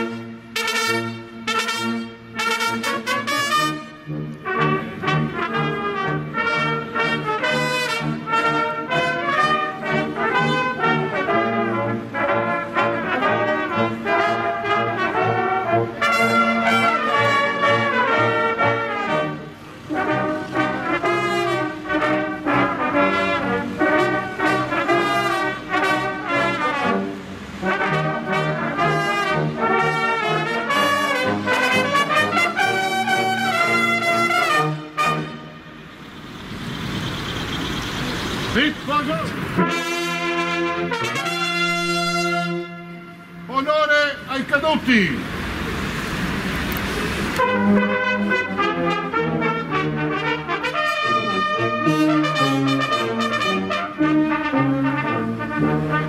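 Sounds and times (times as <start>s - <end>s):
brass band playing: 0.0s - 45.1s, 47.2s - 56.0s.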